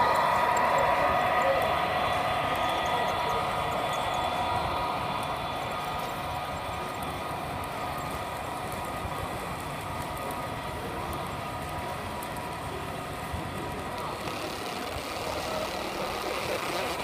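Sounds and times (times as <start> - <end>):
model train cars rolling: 0.0 - 17.0
wheels ticking on rails: 0.0 - 17.0.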